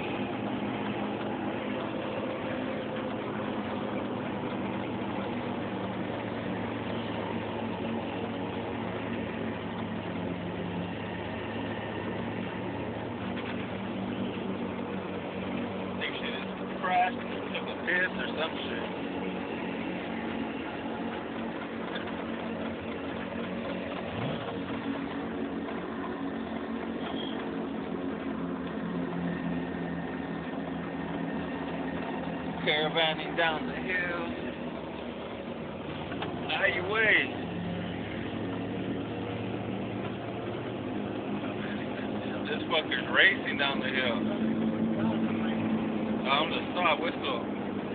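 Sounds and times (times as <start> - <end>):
engine drone inside cab: 0.0 - 47.9
road noise: 0.0 - 47.9
tyres and wind rushing: 0.0 - 47.9.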